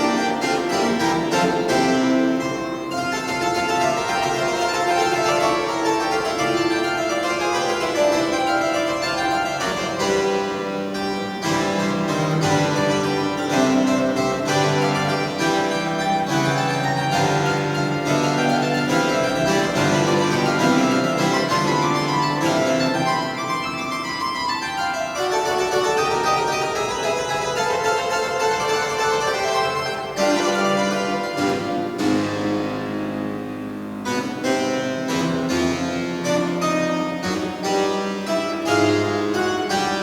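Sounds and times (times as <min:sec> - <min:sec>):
solo keyboard classical piece: 0:00.0 - 0:40.0.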